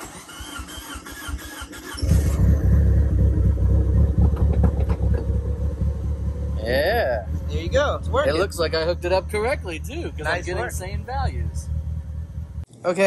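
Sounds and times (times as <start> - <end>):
car engine cranking and idling: 0.0 - 12.7.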